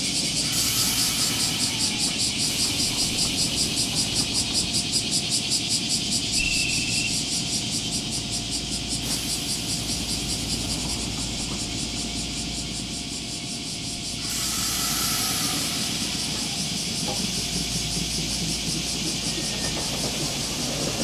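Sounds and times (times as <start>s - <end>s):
cicadas shrilling: 0.0s - 21.0s
electric train humming: 0.0s - 21.0s.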